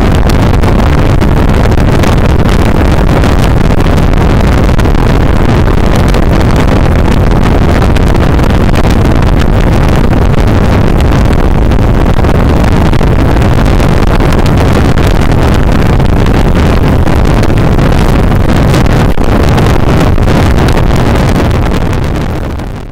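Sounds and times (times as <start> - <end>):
motorcycle engine drone: 0.0 - 22.9
wind buffeting microphone: 0.0 - 22.9.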